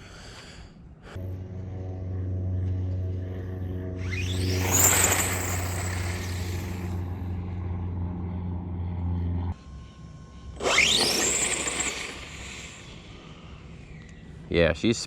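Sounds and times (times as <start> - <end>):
steady low hum: 0.0 - 15.0
electric motor whine: 1.2 - 14.5.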